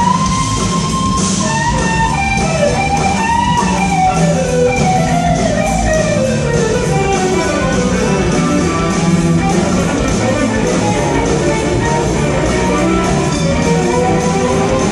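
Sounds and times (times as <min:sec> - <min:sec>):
bass guitar: 0:00.0 - 0:14.9
drums: 0:00.0 - 0:14.9
electric guitar lead line: 0:00.0 - 0:14.9.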